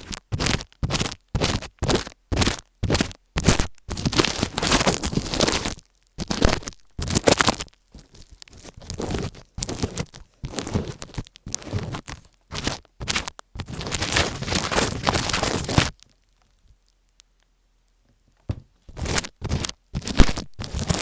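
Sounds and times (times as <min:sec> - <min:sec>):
scratchy rustling bursts: 0:00.0 - 0:15.9, 0:18.8 - 0:21.0.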